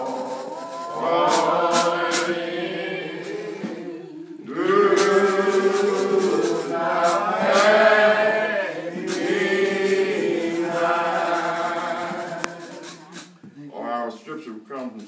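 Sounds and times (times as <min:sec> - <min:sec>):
congregation singing a hymn: 0:00.0 - 0:13.4.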